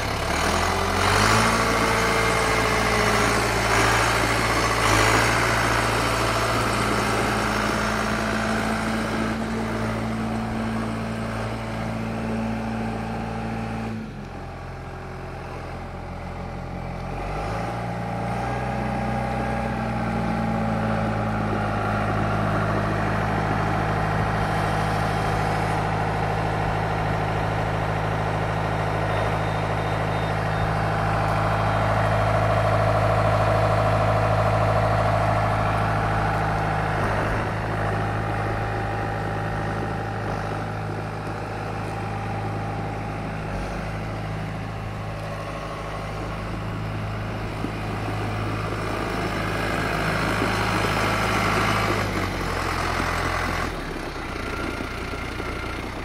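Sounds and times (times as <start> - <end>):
diesel tractor engine idling: 0.0 - 56.0.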